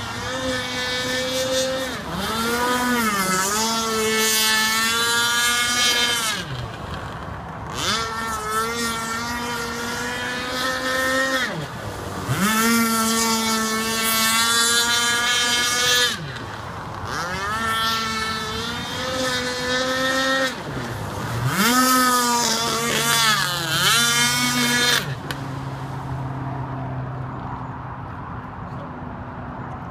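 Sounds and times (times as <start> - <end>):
two-stroke engine revving: 0.0 - 26.4.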